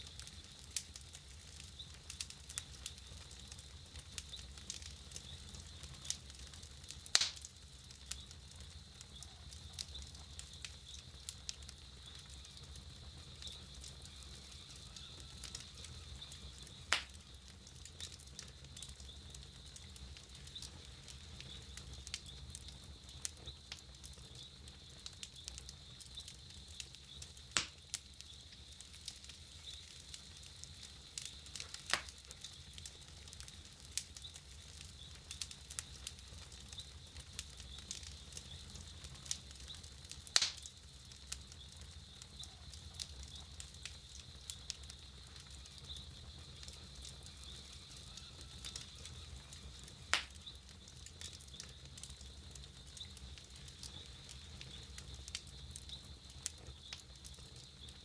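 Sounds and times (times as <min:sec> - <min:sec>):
campfire crackling: 0:00.0 - 0:58.0
loud fire pops: 0:00.0 - 0:58.0.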